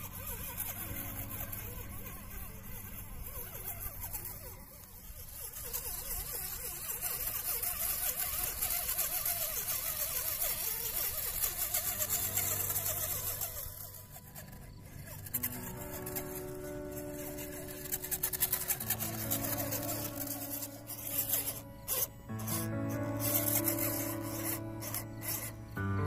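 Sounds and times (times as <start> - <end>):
electric motor whirring: 0.0 - 26.0.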